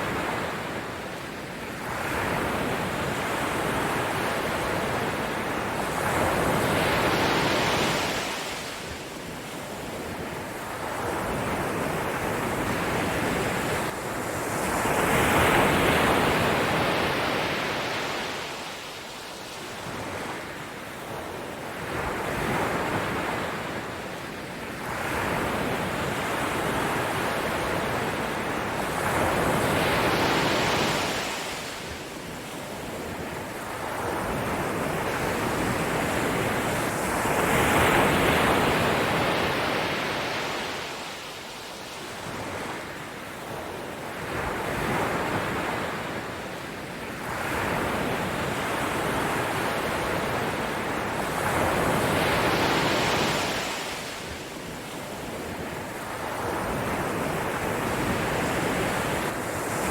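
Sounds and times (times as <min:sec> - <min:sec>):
ocean waves surging and washing: 0:00.0 - 0:59.9.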